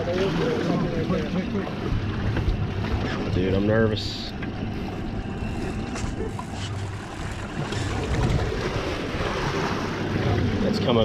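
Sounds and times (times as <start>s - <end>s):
outboard motor idling: 0.0s - 11.0s
water sloshing: 0.0s - 11.0s.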